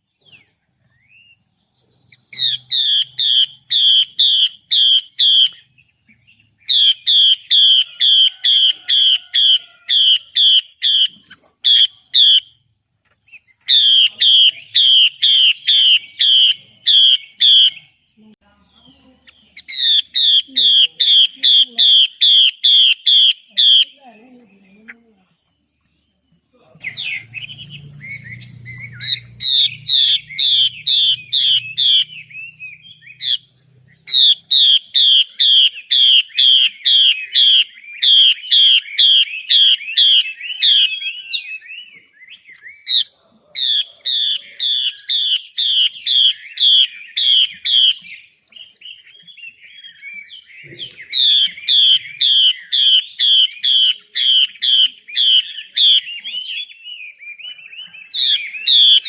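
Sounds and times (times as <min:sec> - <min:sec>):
soft bird twittering: 0:00.0 - 0:59.0
bird singing slurred whistles: 0:00.2 - 0:01.5, 0:02.1 - 0:12.6, 0:13.3 - 0:18.0, 0:26.8 - 0:59.0.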